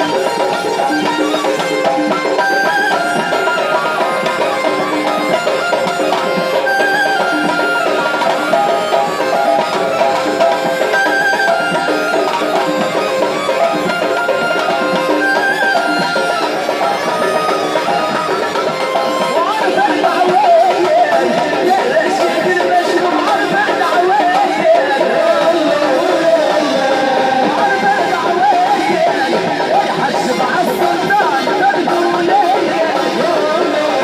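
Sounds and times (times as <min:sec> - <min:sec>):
hand drums: 0:00.0 - 0:34.0
wind instrument melody: 0:00.0 - 0:34.0.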